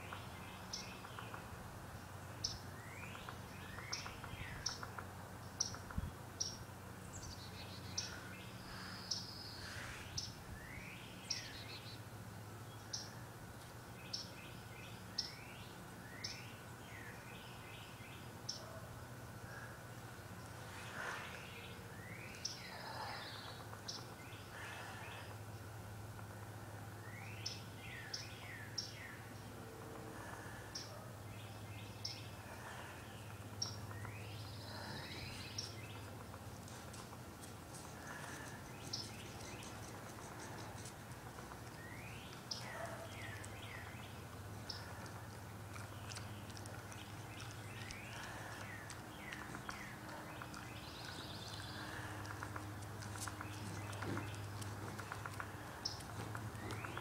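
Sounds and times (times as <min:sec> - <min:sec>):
low steady hum: 0:00.0 - 0:57.0
small birds chipping: 0:00.0 - 0:57.0.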